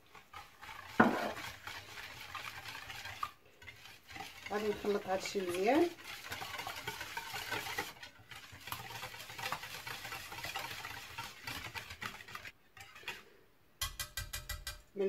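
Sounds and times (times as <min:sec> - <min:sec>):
whisk beating batter in bowl: 0:00.0 - 0:14.8.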